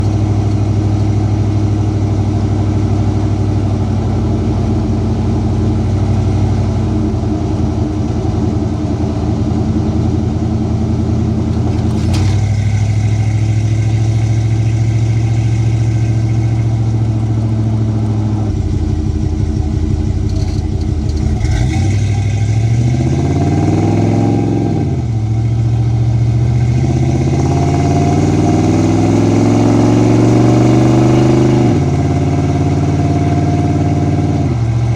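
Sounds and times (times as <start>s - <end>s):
car engine at highway speed: 0.0s - 34.9s.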